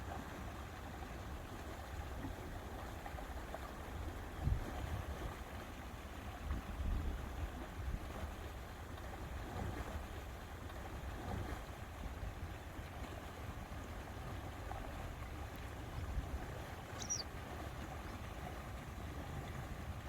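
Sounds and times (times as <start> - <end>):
water lapping: 0.0 - 20.0.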